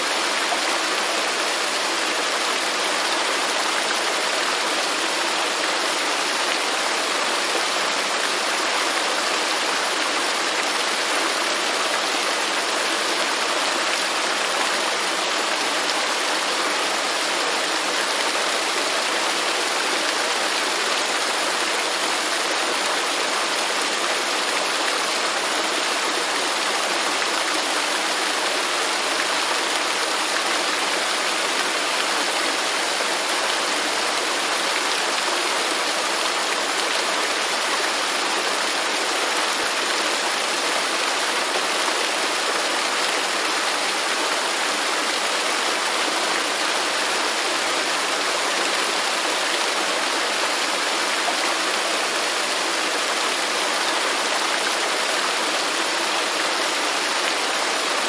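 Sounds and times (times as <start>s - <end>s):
waterfall rushing and splashing: 0.0s - 58.0s.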